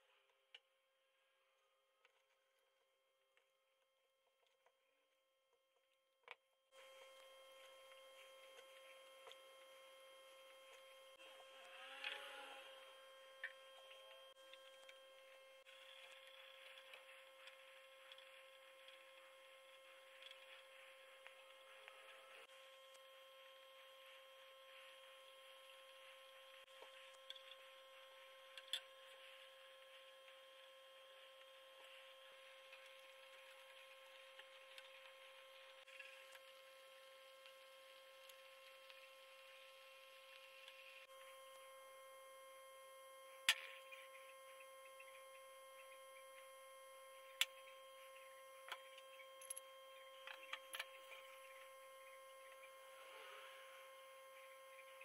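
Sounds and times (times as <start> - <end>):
faint electrical hum: 6.7 - 55.0.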